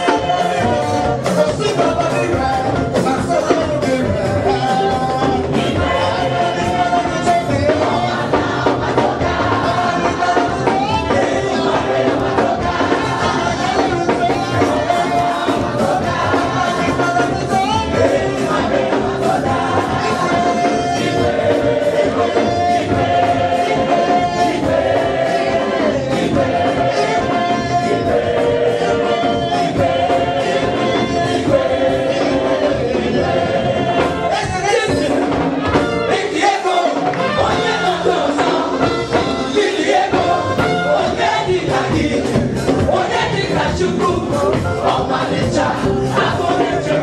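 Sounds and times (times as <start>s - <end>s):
band with percussion: 0.0s - 47.0s
congregation singing: 0.0s - 47.0s.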